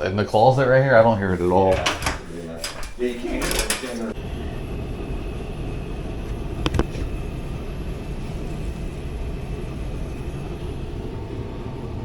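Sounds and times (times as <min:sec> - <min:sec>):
air handler blower running: 0:00.0 - 0:12.0.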